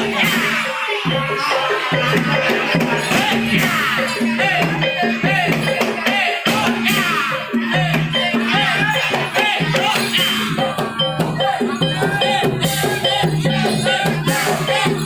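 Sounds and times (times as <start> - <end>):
gamelan ensemble music: 0.0 - 15.0.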